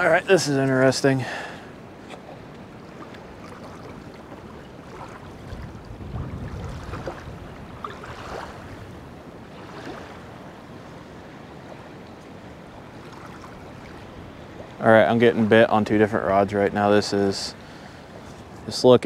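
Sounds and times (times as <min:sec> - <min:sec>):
lake waves lapping: 0:00.0 - 0:19.0
wind buffeting microphone: 0:00.0 - 0:19.0.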